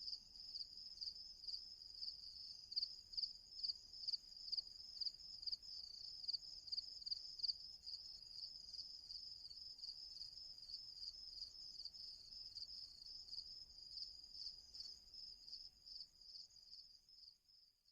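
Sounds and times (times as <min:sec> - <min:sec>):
crickets chirping: 0:00.0 - 0:17.8.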